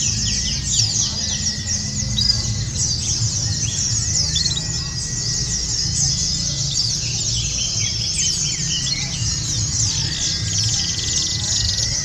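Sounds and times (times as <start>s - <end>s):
chorus of birds chirping and trilling: 0.0s - 12.0s.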